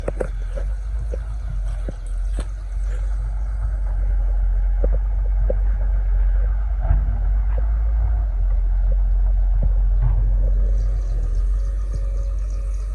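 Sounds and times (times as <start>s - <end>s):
excavator diesel engine rumbling: 0.0s - 12.9s.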